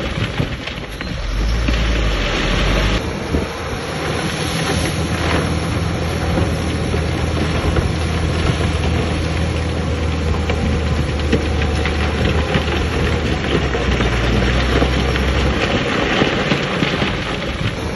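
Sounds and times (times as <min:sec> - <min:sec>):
heavy diesel machinery running: 0:00.0 - 0:17.9.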